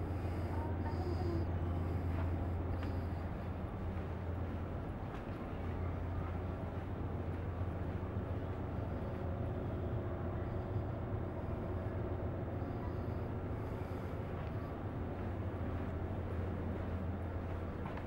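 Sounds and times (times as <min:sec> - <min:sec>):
ferry engine drone: 0:00.0 - 0:18.0.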